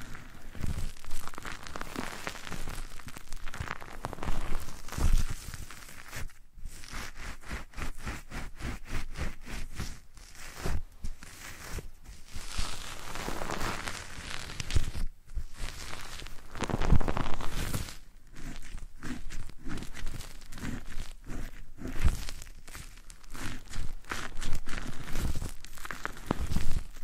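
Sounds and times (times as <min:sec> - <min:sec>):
brushing on microphone: 0:00.0 - 0:27.0
hissing rubs: 0:00.0 - 0:27.0
scratching on microphone: 0:00.0 - 0:27.0.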